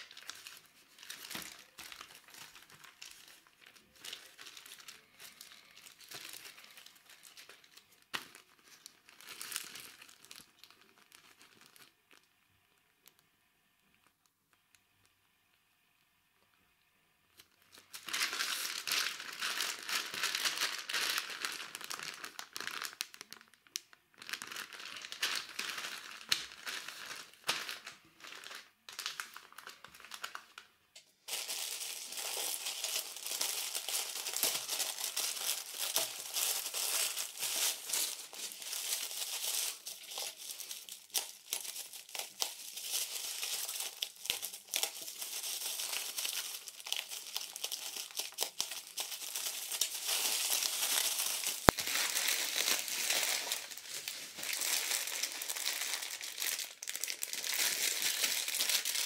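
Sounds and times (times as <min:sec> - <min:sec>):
plastic bag crinkling: 0:00.0 - 0:13.3, 0:17.4 - 0:59.0
bubble wrap crinkling: 0:00.0 - 0:15.8, 0:17.2 - 0:59.0.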